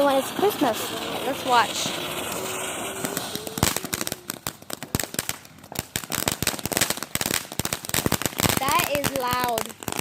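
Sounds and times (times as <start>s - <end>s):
firecrackers cracking: 0.0s - 10.0s.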